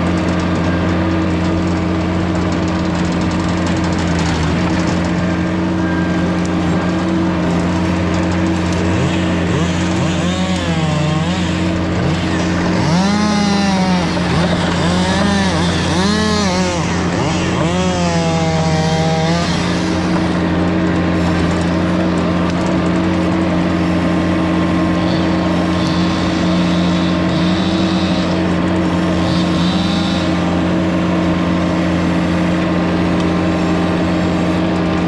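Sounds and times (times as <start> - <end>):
skid steer engine running: 0.0 - 35.0.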